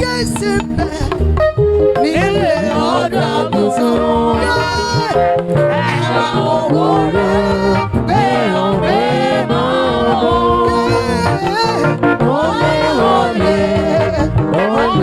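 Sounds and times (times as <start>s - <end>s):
bass line: 0.0s - 15.0s
gospel singing: 2.0s - 15.0s.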